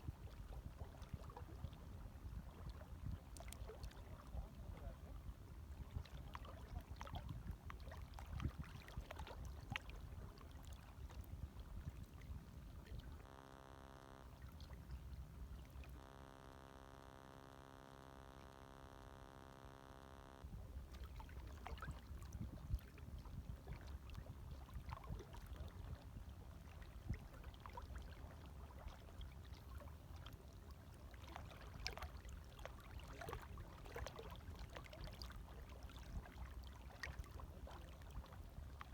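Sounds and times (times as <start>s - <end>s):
gentle waves lapping: 0.0s - 38.9s.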